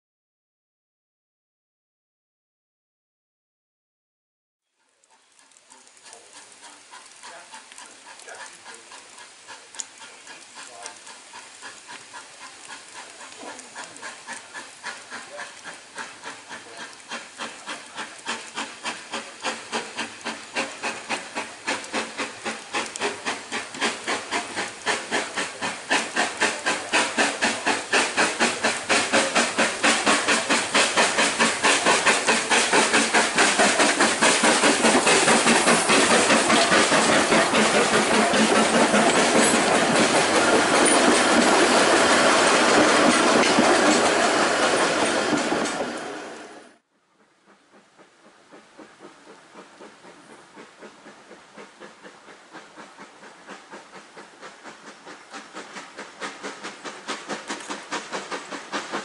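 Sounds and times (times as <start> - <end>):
steam locomotive exhaust chuffing: 5.0 - 59.0
train coaches rolling past: 5.0 - 59.0.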